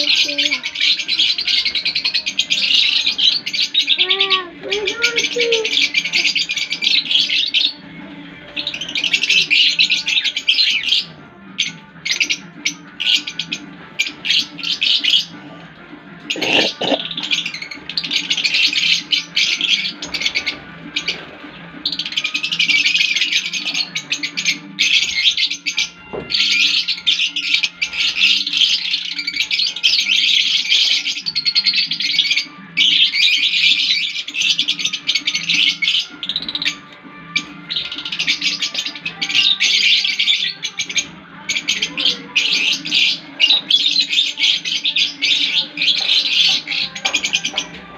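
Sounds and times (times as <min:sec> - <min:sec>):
caged birds chirping shrilly: 0:00.0 - 0:47.9.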